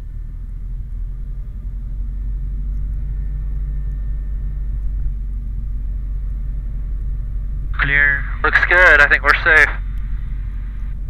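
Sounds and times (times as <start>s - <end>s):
aircraft piston engine droning: 0.0s - 11.0s.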